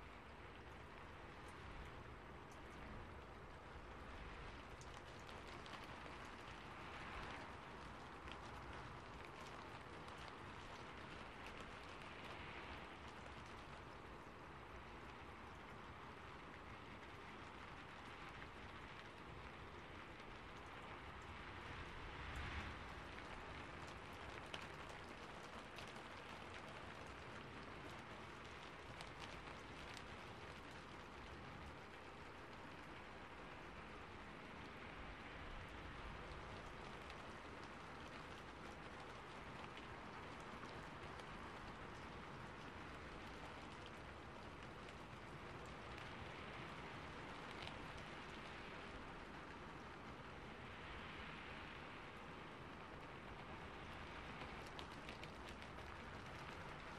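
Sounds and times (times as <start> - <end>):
rain on a roof: 0.0 - 56.9.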